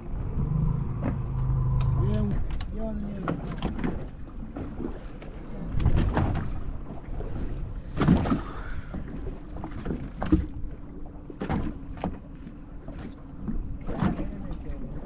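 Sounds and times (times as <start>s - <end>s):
boat engine rumble: 0.0s - 15.0s
wind: 0.0s - 15.0s.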